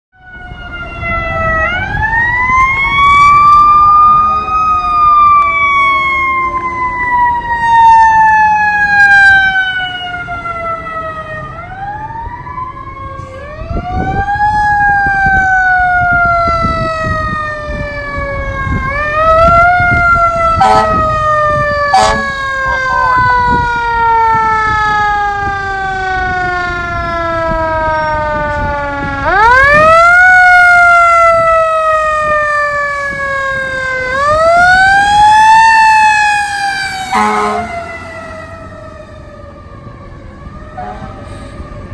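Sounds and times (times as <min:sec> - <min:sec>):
fire engine sirens wailing: 0:00.1 - 0:41.9
trucks rumbling on road: 0:00.1 - 0:41.9.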